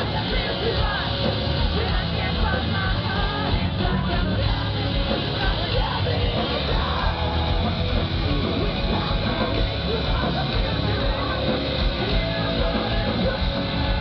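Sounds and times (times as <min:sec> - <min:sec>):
loud rock band playing: 0:00.0 - 0:14.0.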